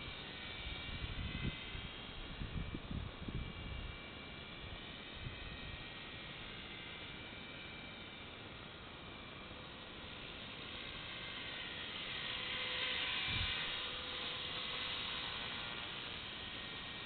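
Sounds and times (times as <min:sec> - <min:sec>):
rc helicopter rotor whooshing: 0:00.0 - 0:17.0.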